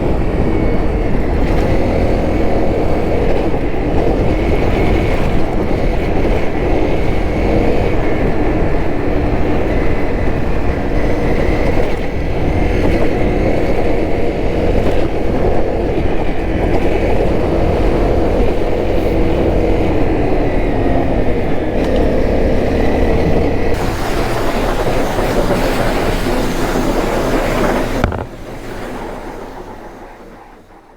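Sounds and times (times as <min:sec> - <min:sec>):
motorcycle engine running: 0:00.0 - 0:30.9
road and wind noise: 0:00.0 - 0:30.9.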